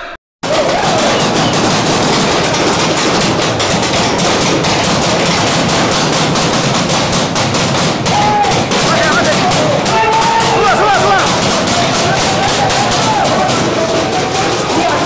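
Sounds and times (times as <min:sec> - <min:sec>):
airsoft rifles firing rapidly: 0:00.4 - 0:15.0.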